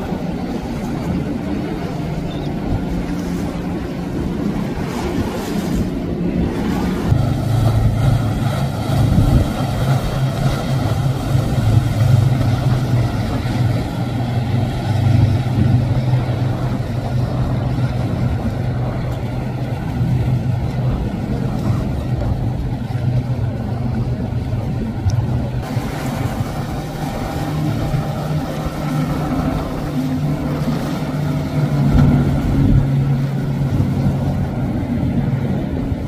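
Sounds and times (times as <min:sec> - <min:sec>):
motorboat engine drone: 0:00.0 - 0:36.0.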